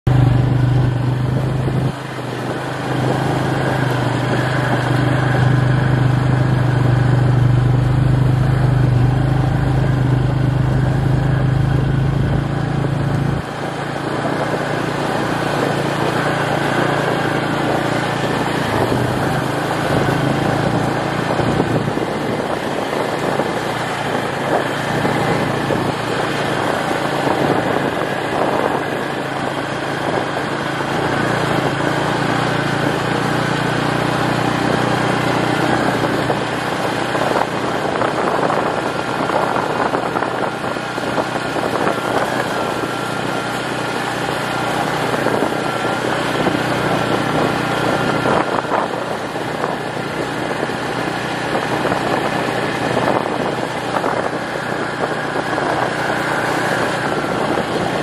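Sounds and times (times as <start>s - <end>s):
small engine running: 0.1s - 58.0s.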